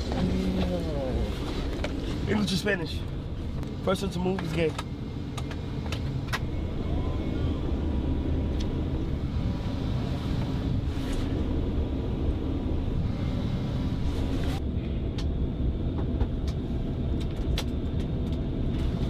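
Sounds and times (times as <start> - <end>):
jet cabin rumble: 0.0 - 19.0.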